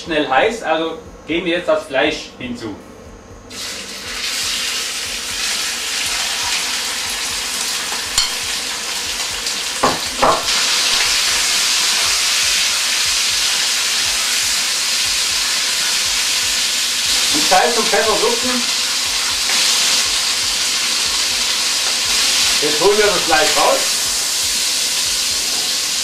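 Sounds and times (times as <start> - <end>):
chicken sizzling in oil: 3.5 - 26.0.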